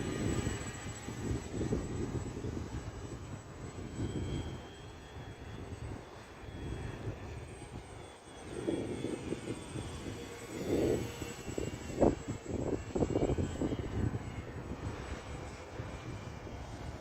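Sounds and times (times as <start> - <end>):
model airplane motor droning: 0.0 - 17.0.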